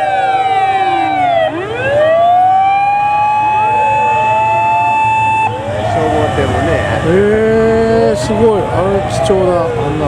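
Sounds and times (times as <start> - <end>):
engines running low: 0.0 - 10.0
fire engine sirens wailing: 0.0 - 10.0.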